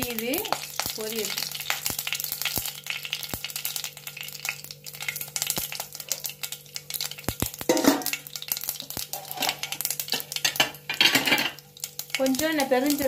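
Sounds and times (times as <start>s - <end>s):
seeds popping in hot oil: 0.0s - 13.0s.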